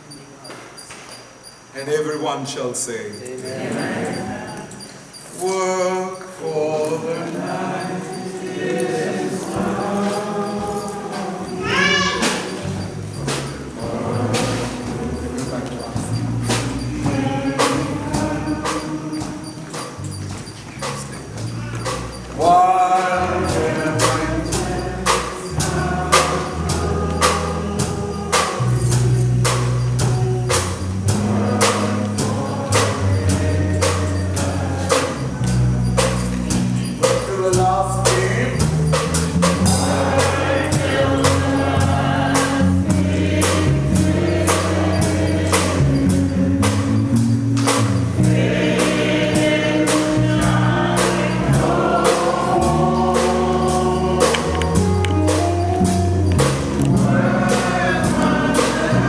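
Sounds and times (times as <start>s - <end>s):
steady percussion beat: 0.8s - 59.0s
choir singing: 1.8s - 59.0s
sustained bass line: 6.4s - 59.0s.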